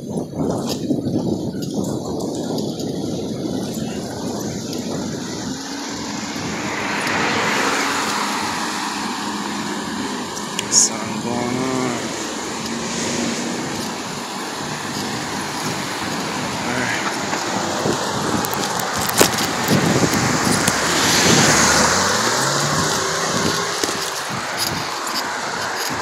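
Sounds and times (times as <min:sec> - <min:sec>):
cars passing on street: 0:00.0 - 0:26.0.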